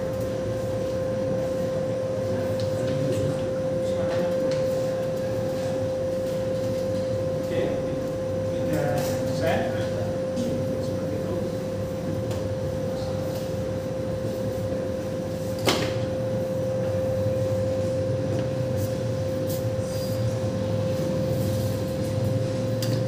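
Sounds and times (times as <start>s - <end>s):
machine hum with whine: 0.0s - 23.0s.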